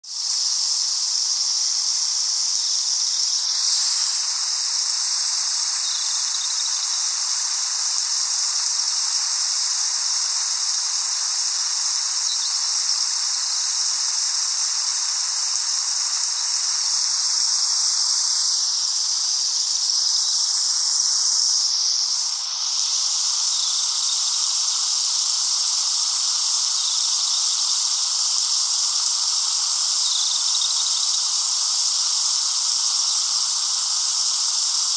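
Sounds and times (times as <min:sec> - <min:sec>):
high-pitched outdoor hiss: 0:00.0 - 0:34.9.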